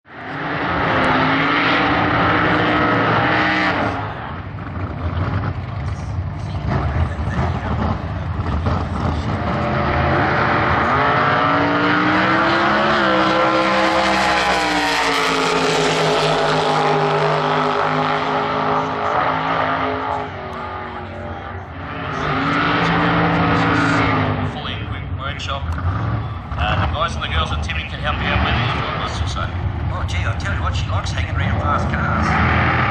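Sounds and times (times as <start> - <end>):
race car engine revving: 0.1 - 32.9.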